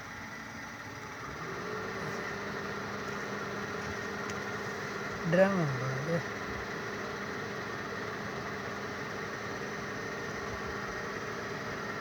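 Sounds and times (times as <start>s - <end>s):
water pump motor humming: 0.8s - 12.0s.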